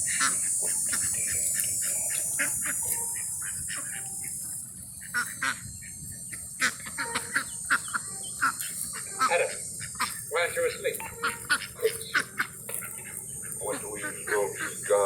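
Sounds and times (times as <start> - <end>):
geese and ducks calling: 0.0 - 15.0.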